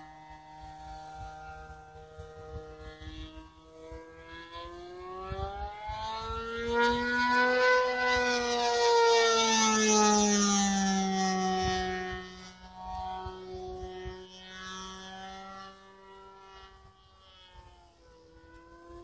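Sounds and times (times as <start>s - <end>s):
model airplane engine whining: 0.0s - 19.0s.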